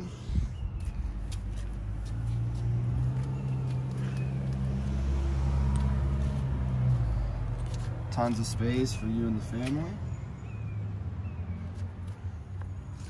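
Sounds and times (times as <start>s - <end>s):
vehicle engine idling: 0.0s - 10.5s.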